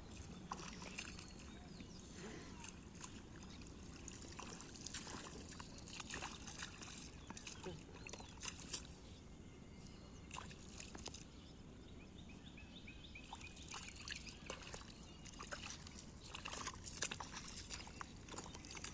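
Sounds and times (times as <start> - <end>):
wet squelches and splashes: 0.0 - 9.2, 10.2 - 11.4, 13.2 - 18.9.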